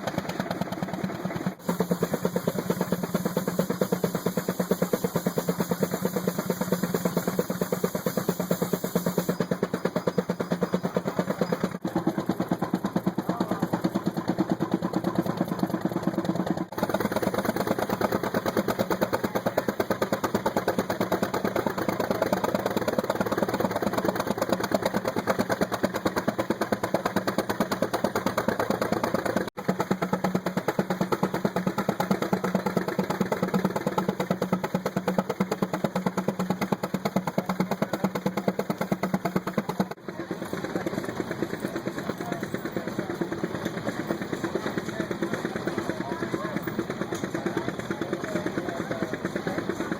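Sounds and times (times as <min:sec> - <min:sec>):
tractor engine running hard: 0:00.0 - 0:49.9.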